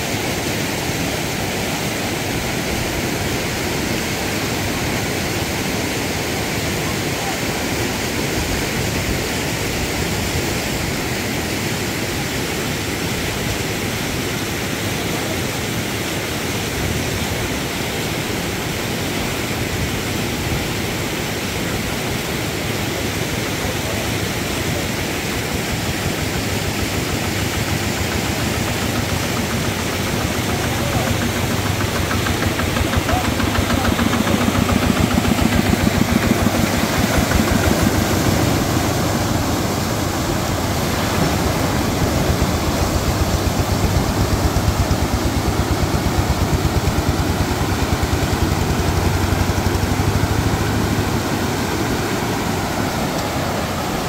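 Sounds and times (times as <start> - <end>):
rushing water: 0.0 - 54.0
small engine running: 0.0 - 54.0.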